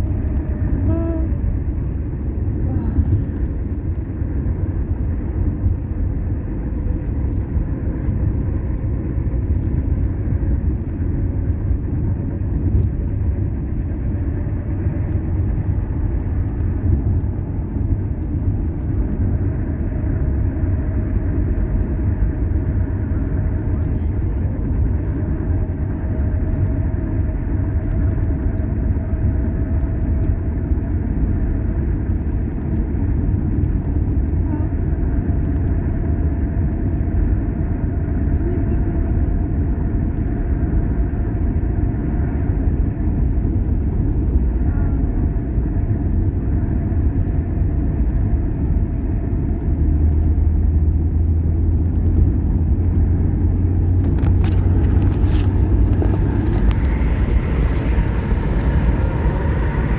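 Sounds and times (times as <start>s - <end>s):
road vehicle engine and tyres rumble: 0.0s - 59.9s.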